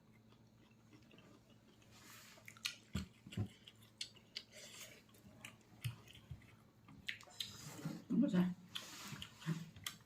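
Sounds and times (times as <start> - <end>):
person chewing: 0.0 - 7.8, 8.7 - 10.0.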